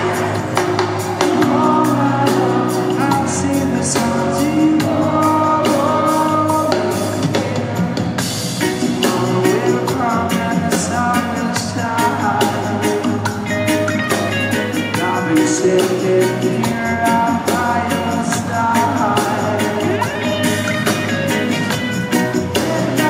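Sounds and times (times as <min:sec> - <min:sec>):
man singing: 0:00.0 - 0:07.7, 0:08.6 - 0:23.0
reggae band playing: 0:00.0 - 0:23.0.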